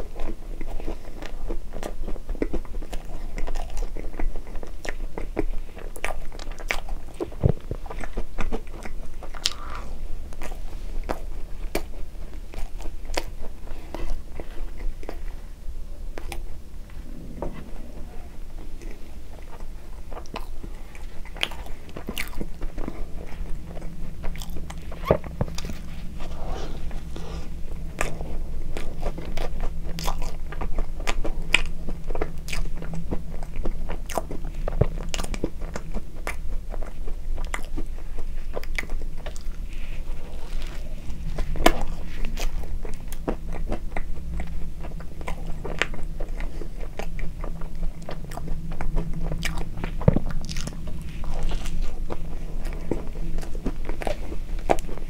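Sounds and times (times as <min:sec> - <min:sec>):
wet mouth chewing sounds: 0:00.0 - 0:55.0.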